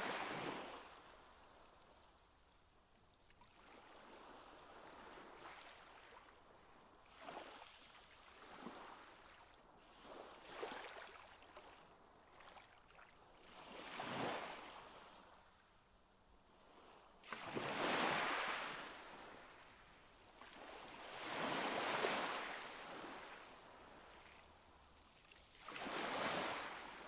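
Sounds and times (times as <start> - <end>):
faint water lapping in pool: 0.0 - 27.0.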